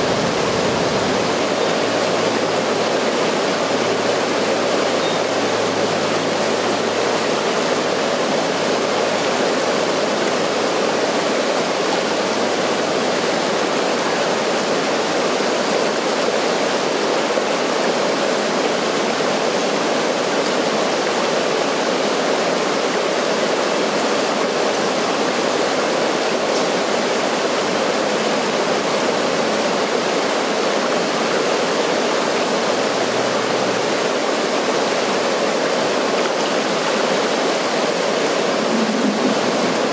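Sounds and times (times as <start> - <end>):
water rushing over a dam: 0.0 - 39.9.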